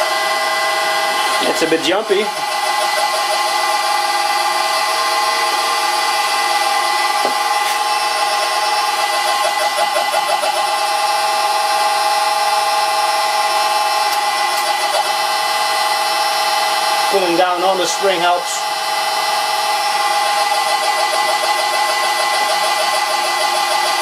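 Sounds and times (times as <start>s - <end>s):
lathe motor whining: 0.0s - 24.0s
mechanical running noise: 0.0s - 24.0s.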